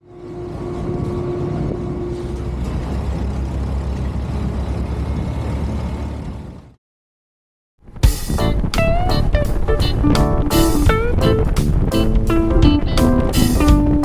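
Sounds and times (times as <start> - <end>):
vehicle engine rumbling: 0.0 - 6.8, 7.9 - 14.0.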